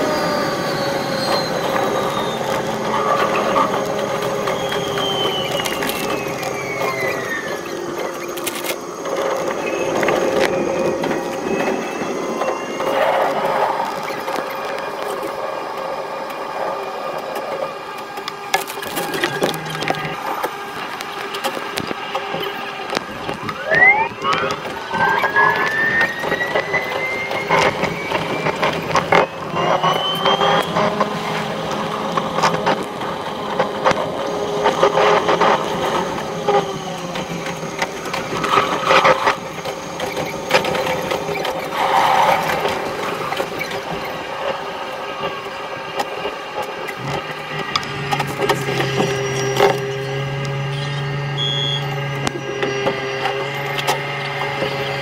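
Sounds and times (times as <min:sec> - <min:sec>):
electric train motor whine: 0:00.0 - 0:55.0
wheels clattering on rails: 0:00.0 - 0:55.0.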